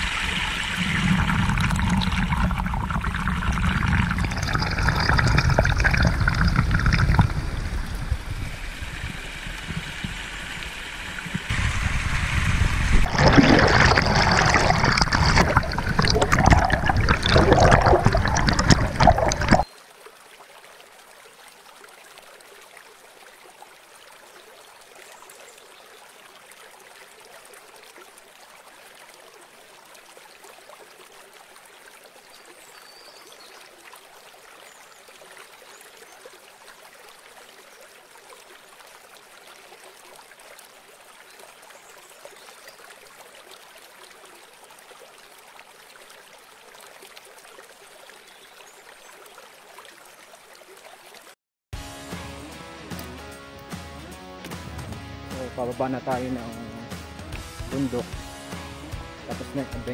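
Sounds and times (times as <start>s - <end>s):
river water flowing: 0.0s - 51.4s.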